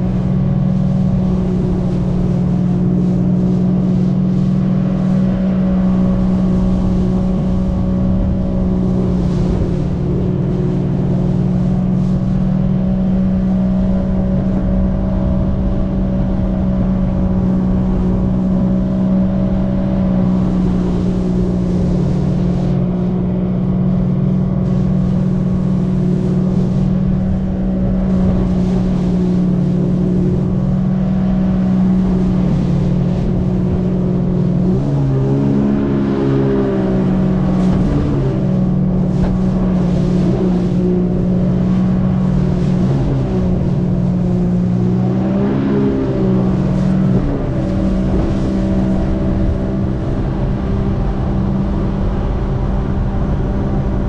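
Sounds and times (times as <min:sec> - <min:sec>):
jet ski engine running: 0:00.0 - 0:54.0
rushing water and spray: 0:00.0 - 0:54.0.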